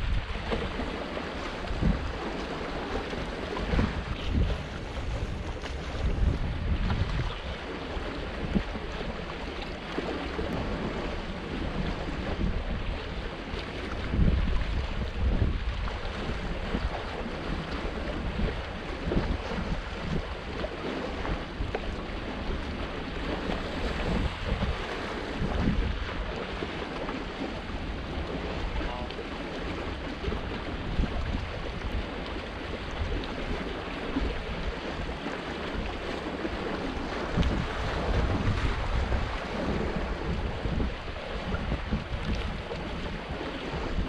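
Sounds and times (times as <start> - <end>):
wave splash: 0.0 - 44.0
waves washing against rocks: 0.0 - 44.0
wind buffeting microphone: 0.0 - 44.0.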